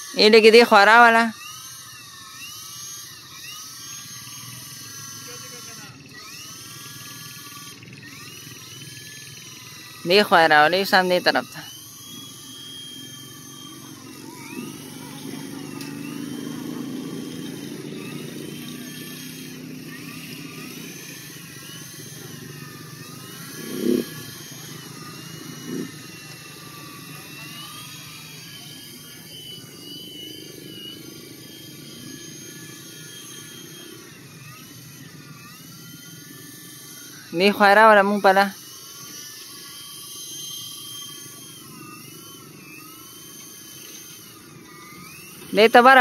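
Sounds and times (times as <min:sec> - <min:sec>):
toy helicopter motors whining: 0:00.0 - 0:46.0.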